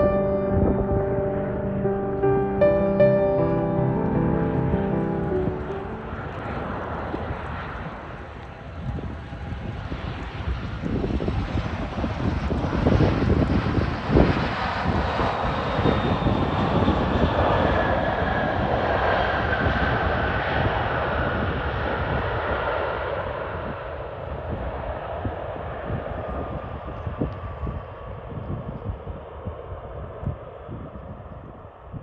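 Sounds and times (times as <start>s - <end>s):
jet engines roaring overhead: 0.0s - 30.9s
jet engine whine: 0.0s - 31.5s.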